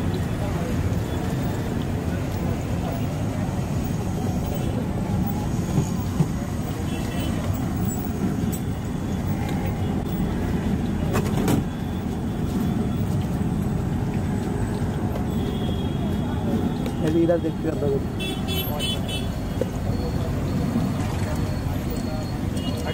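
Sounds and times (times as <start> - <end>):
roadside traffic rumble: 0.0 - 22.9.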